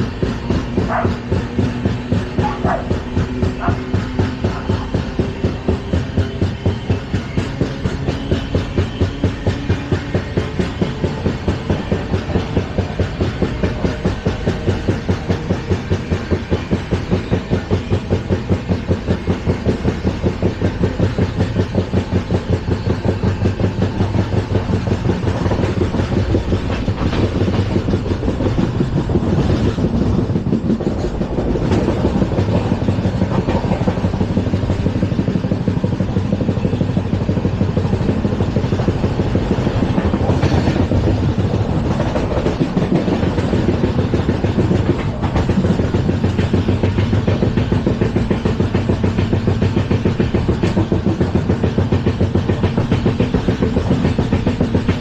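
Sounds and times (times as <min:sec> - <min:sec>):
train wheels clattering on track: 0:00.0 - 0:55.0.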